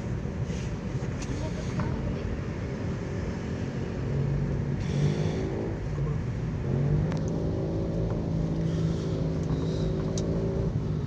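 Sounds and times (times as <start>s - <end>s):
car engine accelerating: 0.0s - 11.0s
road rumble: 0.0s - 11.0s.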